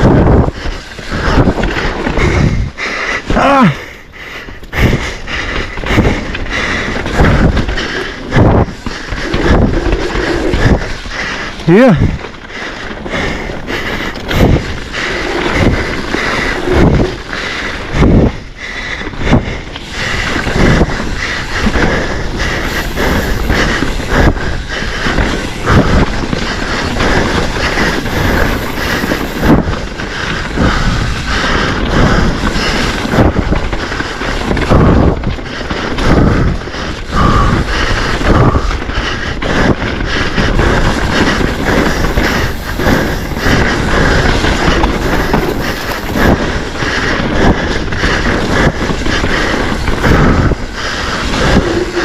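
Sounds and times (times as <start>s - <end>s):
bike rattling and knocking: 0.0s - 52.0s
bike tyres on dirt: 0.0s - 52.0s
wind buffeting microphone: 0.0s - 52.0s.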